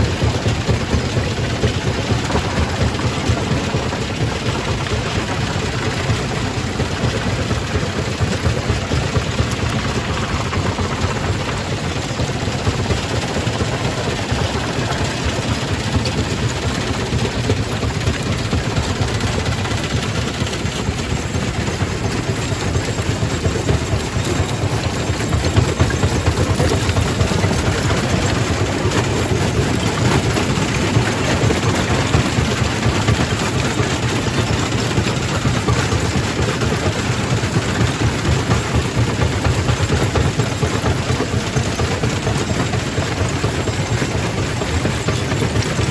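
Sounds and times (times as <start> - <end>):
rock crusher running: 0.0 - 45.9.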